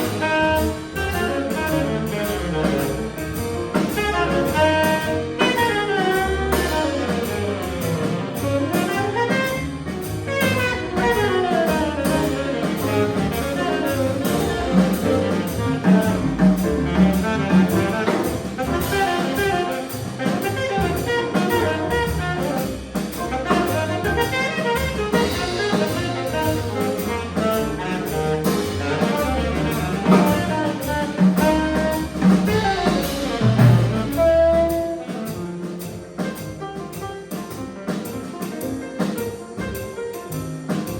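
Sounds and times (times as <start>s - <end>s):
horn melody: 0.0s - 36.4s
drum kit: 0.0s - 40.9s
walking bass: 0.0s - 40.9s.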